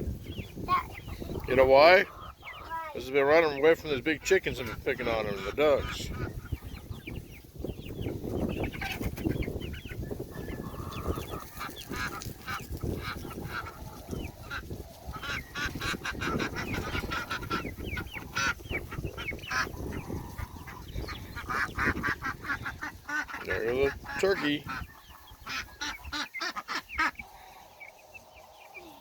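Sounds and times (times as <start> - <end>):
chickens clucking: 0.0 - 29.0
ducks quacking: 0.3 - 29.0.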